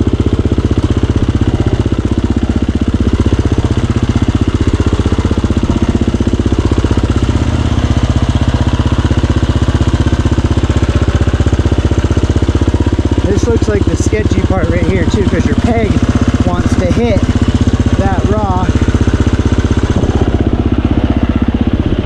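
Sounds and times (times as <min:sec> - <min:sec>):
dirt bike engine at low revs: 0:00.0 - 0:22.0.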